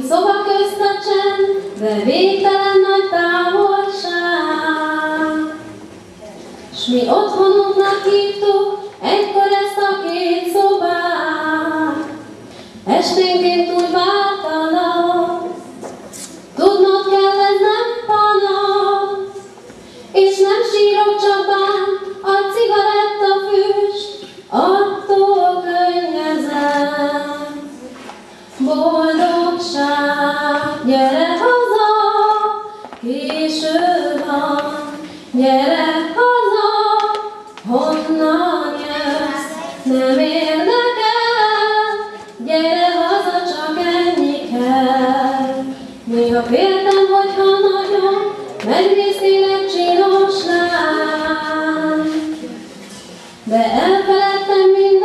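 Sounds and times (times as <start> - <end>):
woman singing into microphone: 0.0 - 5.7, 6.7 - 15.8, 16.6 - 19.4, 20.1 - 27.8, 28.5 - 52.6, 53.3 - 55.0.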